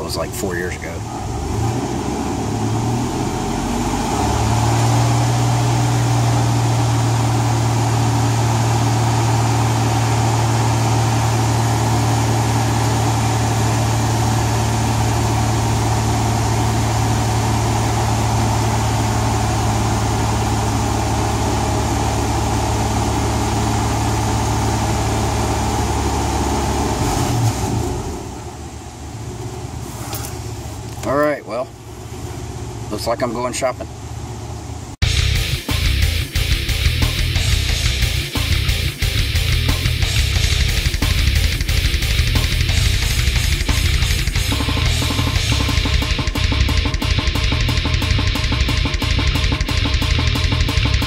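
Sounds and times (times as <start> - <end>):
car engine running: 0.0 - 51.0.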